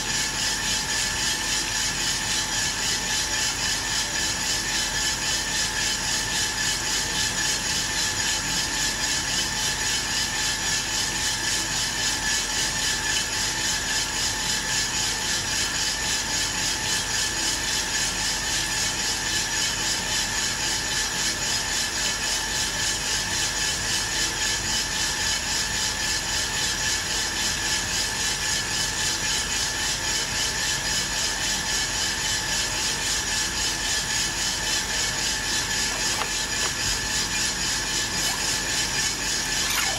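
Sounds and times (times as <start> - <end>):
coffee roaster rushing hiss: 0.0 - 39.9.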